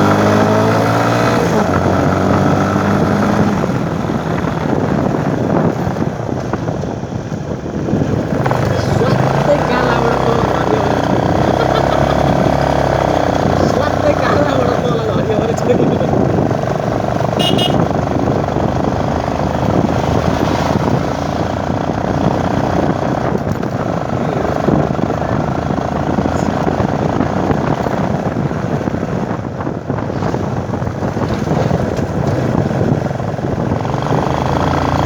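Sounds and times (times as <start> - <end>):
motorcycle engine drone: 0.0 - 35.0
road noise: 0.0 - 35.0.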